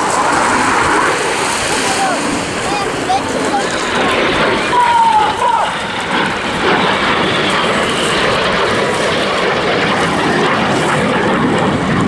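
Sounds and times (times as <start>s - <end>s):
jet aircraft roar overhead: 0.0s - 12.0s.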